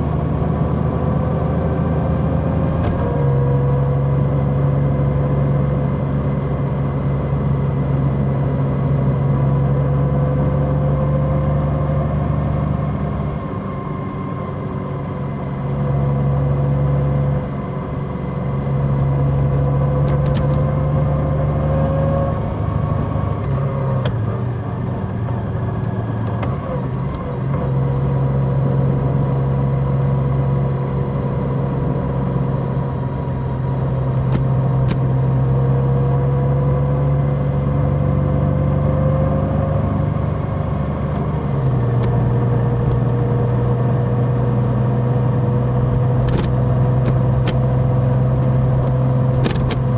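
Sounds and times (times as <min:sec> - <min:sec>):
large motorcycle engine running: 0:00.0 - 0:49.9.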